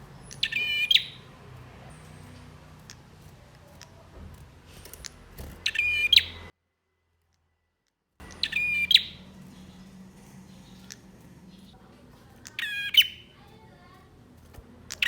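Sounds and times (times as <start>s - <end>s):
bird singing rapid phrase: 0.0s - 6.5s, 8.2s - 15.0s.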